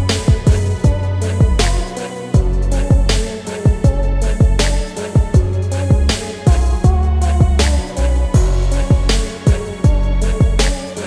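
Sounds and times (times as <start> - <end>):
hip hop beat: 0.0 - 11.0.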